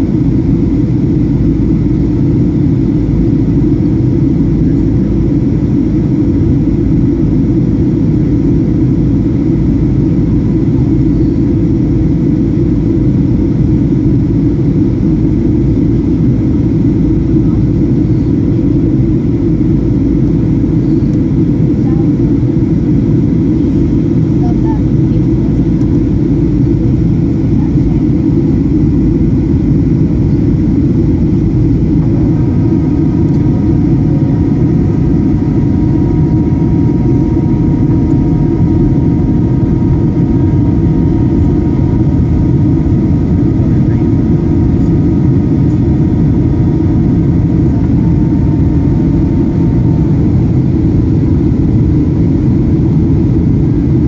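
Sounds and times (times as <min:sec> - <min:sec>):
airliner cabin roar: 0:00.0 - 0:54.0
engine whine tones: 0:00.0 - 0:54.0.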